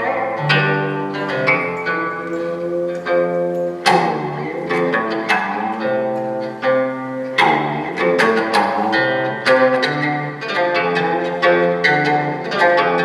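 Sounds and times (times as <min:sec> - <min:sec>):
bowed string instrument: 0:00.0 - 0:13.0
plucked zither notes: 0:00.0 - 0:13.0.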